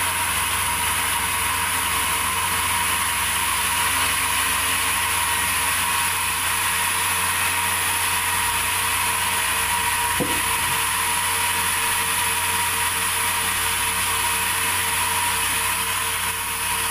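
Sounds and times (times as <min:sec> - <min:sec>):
sawmill machinery hiss and hum: 0:00.0 - 0:16.9.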